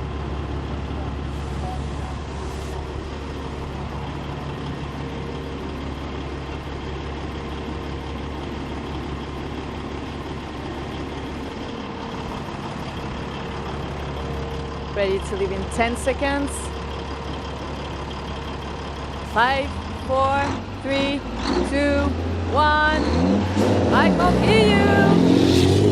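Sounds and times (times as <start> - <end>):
truck engine idling: 0.0 - 25.1.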